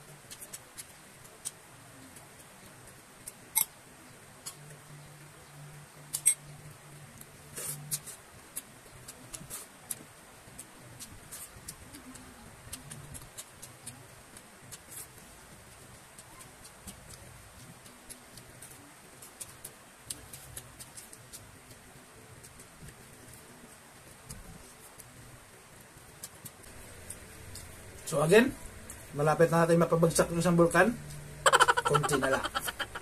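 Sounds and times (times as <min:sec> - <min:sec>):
faint low hum: 0:00.0 - 0:33.0.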